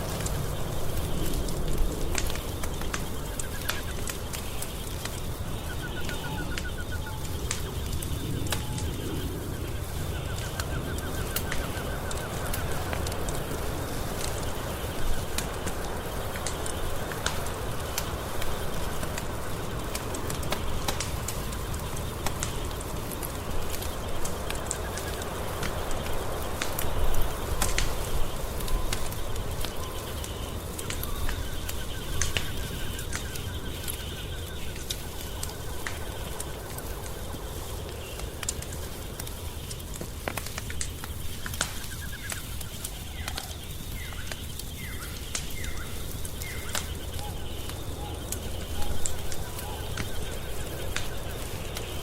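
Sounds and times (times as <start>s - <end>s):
birds calling: 0.0s - 52.0s
wood fire crackling in a fireplace: 0.0s - 52.0s.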